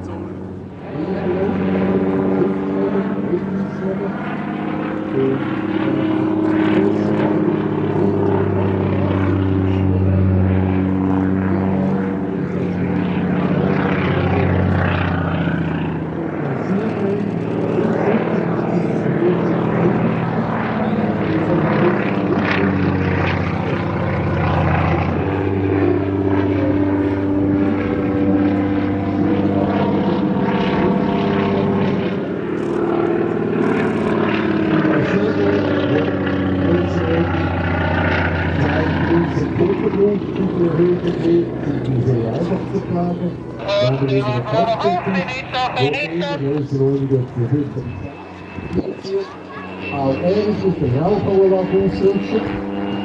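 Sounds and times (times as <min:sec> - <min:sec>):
biplane engine and propeller: 0:00.0 - 0:53.0.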